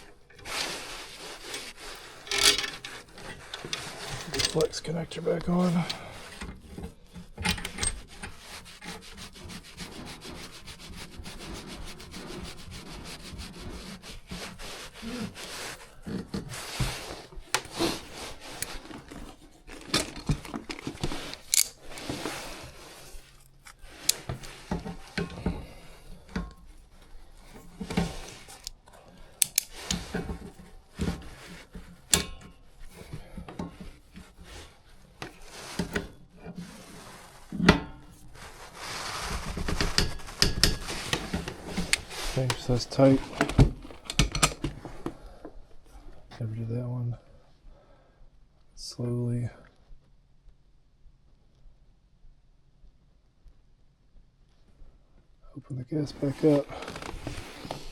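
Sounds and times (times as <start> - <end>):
metal scraping and rubbing: 0.0 - 28.8, 29.4 - 45.2, 56.1 - 57.9.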